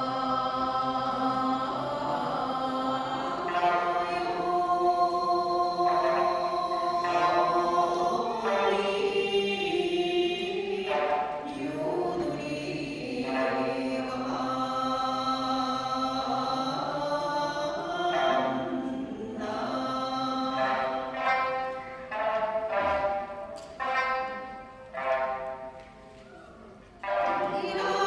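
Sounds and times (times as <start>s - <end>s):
group singing folk song: 0.0s - 26.2s, 26.9s - 28.0s.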